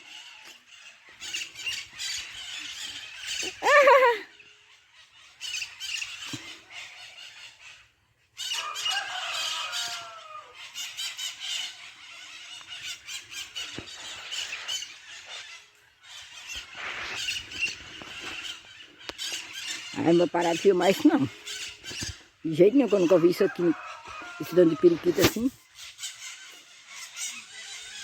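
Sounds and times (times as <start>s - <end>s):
parrots screeching and squawking: 0.0s - 28.0s.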